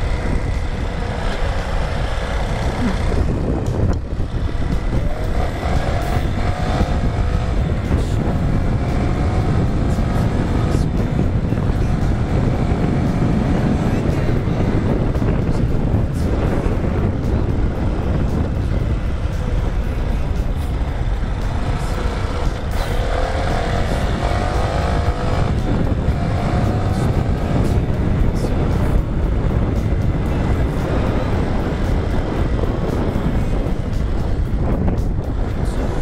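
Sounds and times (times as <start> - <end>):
motorcycle engine running: 0.0 - 36.0
wind rumble on microphone: 0.0 - 36.0.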